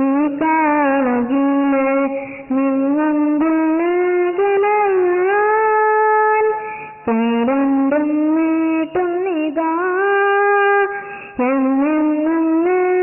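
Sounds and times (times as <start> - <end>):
devotional song with long held notes: 0.0 - 13.0.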